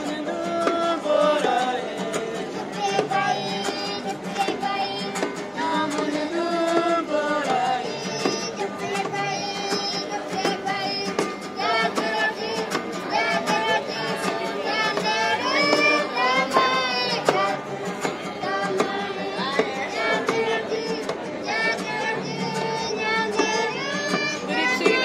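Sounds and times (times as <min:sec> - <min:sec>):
children and women singing: 0:00.0 - 0:25.0
plucked string instrument: 0:00.0 - 0:25.0.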